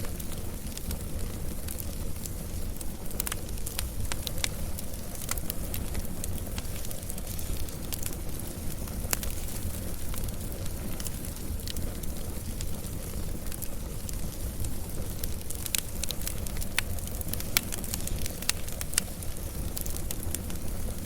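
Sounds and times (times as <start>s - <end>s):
burning wood crackling and popping: 0.0s - 21.0s
wood fire rumbling: 0.0s - 21.0s.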